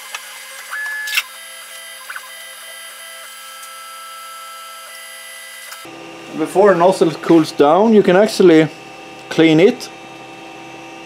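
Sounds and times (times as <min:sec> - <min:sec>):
printer fans whining: 0:00.0 - 0:11.0.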